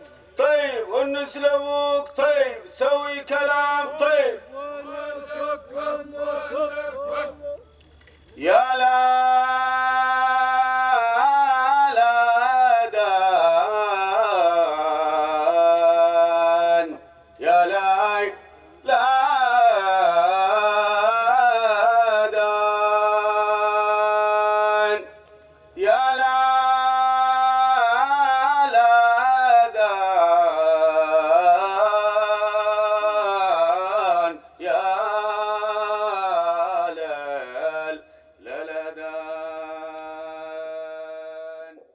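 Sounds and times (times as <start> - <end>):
man singing unaccompanied chant: 0.0 - 7.8, 8.4 - 25.2, 25.8 - 41.9.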